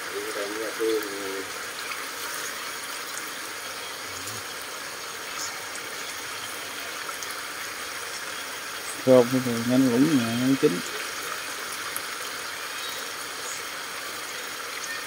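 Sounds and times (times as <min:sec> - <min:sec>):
food simmering hiss: 0:00.0 - 0:15.0.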